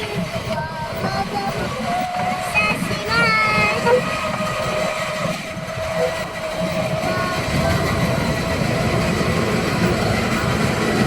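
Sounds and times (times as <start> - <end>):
miniature train rumble: 0.0 - 11.0.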